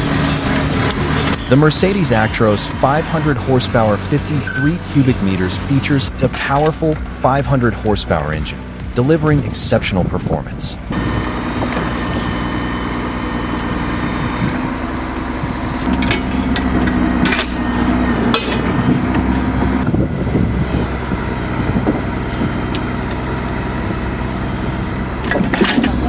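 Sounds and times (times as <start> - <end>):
heavy diesel truck engine: 0.0 - 26.0.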